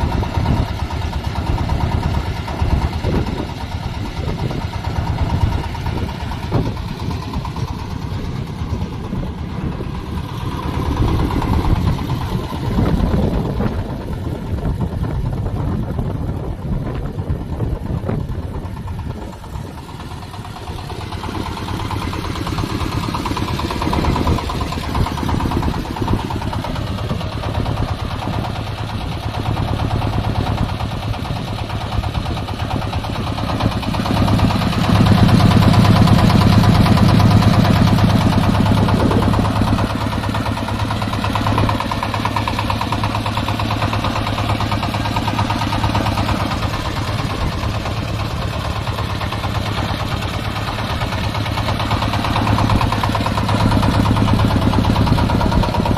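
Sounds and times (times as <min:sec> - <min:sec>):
corn sheller engine droning: 0:00.0 - 0:55.9.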